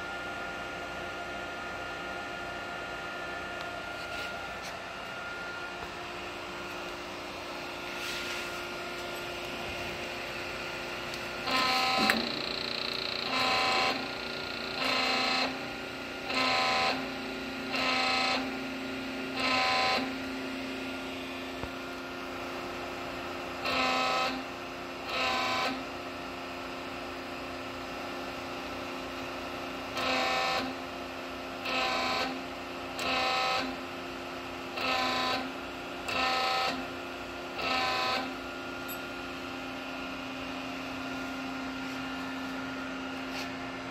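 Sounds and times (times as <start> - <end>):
rotary cylinder mechanical hum: 0.0 - 43.9.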